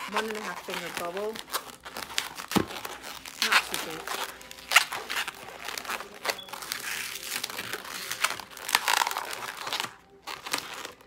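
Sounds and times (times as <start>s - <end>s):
balloons rubbing and crinkling: 0.0s - 11.0s.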